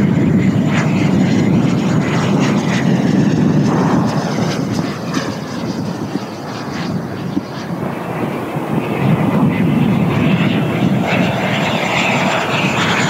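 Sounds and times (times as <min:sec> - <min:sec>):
model jet electric fan whine: 0:00.0 - 0:13.0.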